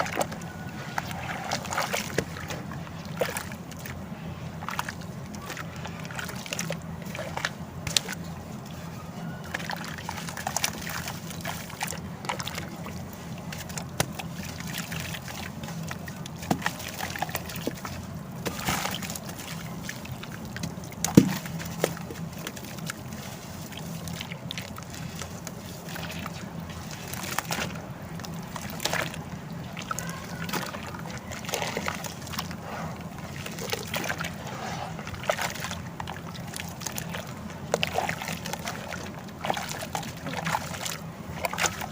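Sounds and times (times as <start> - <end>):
water sloshing and trickling: 0.0 - 41.9.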